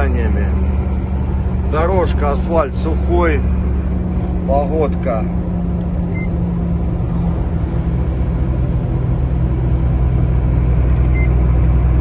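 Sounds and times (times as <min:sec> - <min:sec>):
engine and road noise drone: 0:00.0 - 0:12.0.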